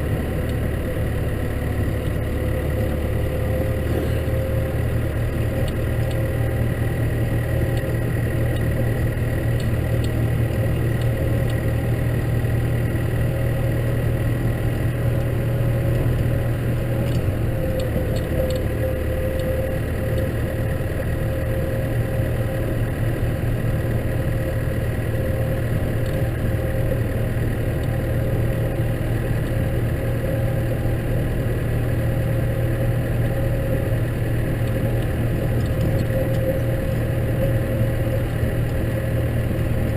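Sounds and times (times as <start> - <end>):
thin steady whine: 0.0 - 39.9
tractor diesel engine running: 0.0 - 39.9.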